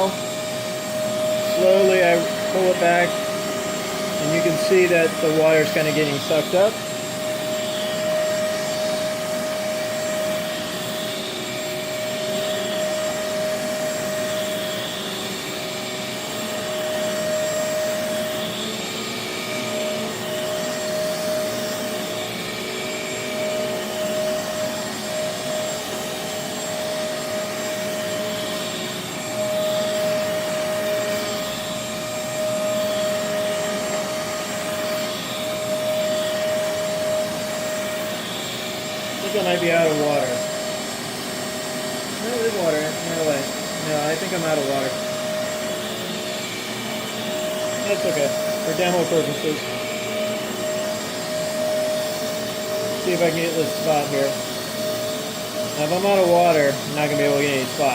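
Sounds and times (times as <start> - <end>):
carpet cleaner suction motor whining: 0.0 - 57.9.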